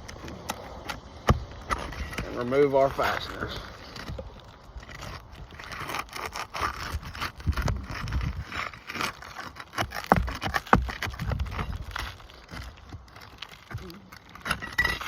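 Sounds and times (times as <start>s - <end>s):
scraping and prying under shingles: 0.0s - 15.0s.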